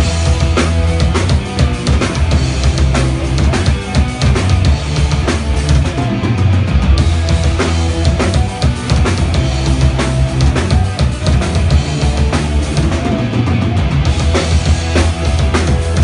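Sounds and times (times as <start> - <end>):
punk rock band playing: 0.0 - 16.0.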